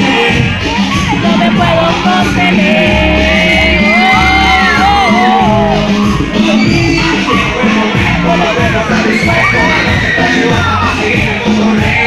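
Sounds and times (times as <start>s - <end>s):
loud live music: 0.0s - 12.0s.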